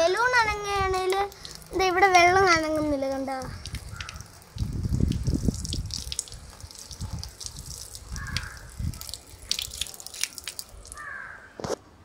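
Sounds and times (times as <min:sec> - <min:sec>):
water jetting and splashing: 0:00.0 - 0:11.1.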